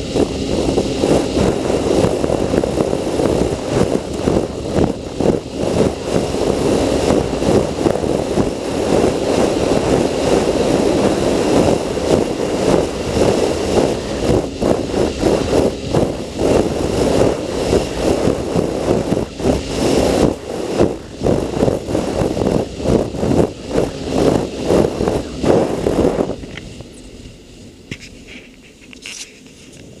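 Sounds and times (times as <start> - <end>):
water noise: 0.0 - 29.3
jet ski engine: 0.0 - 30.0
wind buffeting: 0.0 - 30.0.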